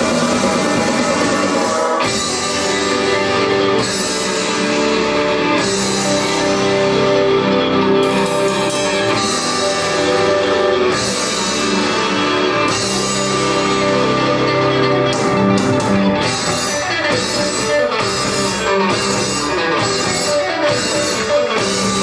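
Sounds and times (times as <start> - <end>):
drum kit: 0.0 - 22.0
electric guitar: 0.0 - 22.0
rock pop song: 0.0 - 22.0.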